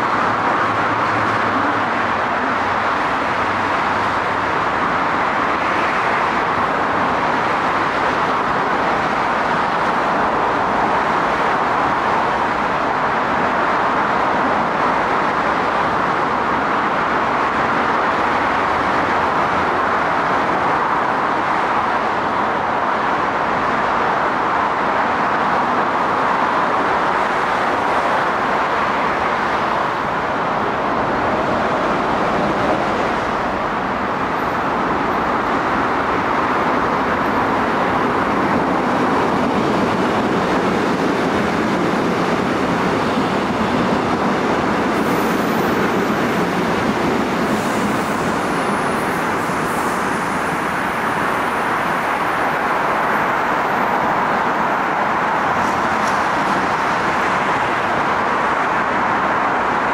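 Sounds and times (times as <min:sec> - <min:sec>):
road traffic noise: 0:00.0 - 0:59.9
train wheels rolling over rails: 0:00.0 - 0:59.9.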